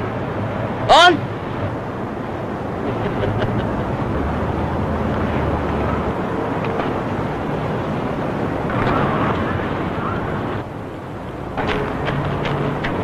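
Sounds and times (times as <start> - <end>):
distant city traffic: 0.0 - 13.0
wind: 0.0 - 13.0.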